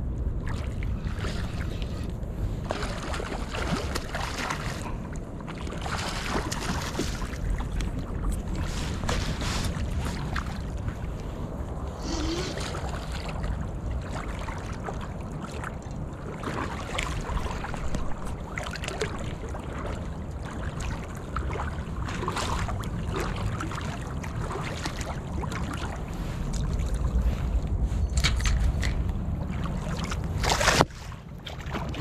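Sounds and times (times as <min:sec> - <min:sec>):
wind rumble on microphone: 0:00.0 - 0:32.0.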